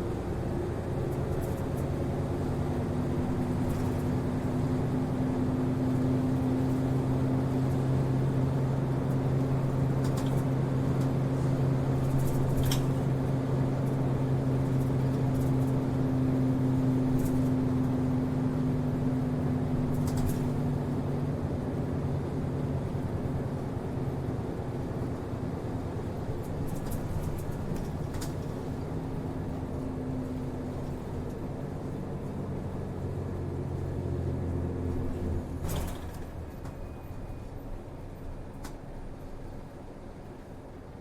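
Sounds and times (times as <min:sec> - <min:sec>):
bus engine running: 0:00.0 - 0:41.0
road noise: 0:00.0 - 0:41.0.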